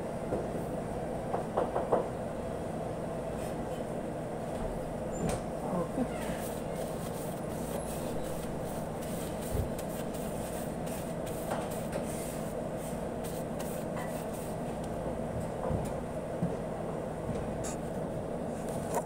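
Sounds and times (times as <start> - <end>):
kitchen machinery drone: 0.0 - 19.0.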